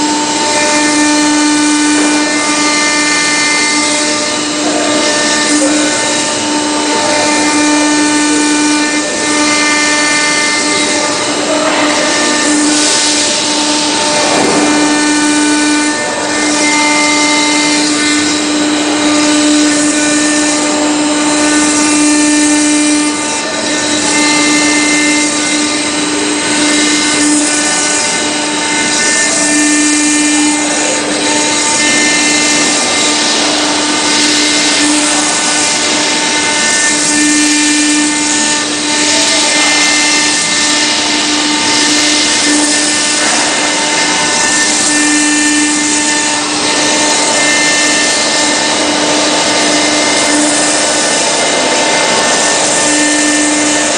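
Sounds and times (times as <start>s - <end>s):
bit grinding stone: 0.0s - 53.9s
router spindle hum and whine: 0.0s - 53.9s.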